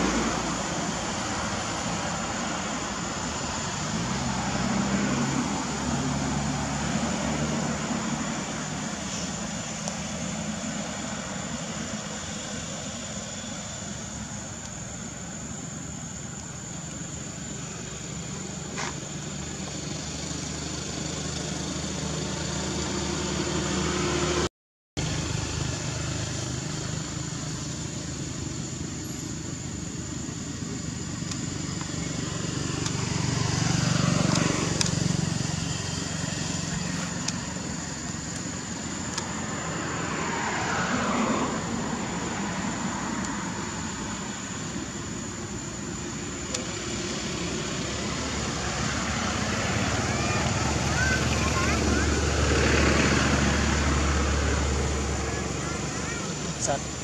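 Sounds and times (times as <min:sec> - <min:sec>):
low engine hum: 0:00.0 - 0:57.0.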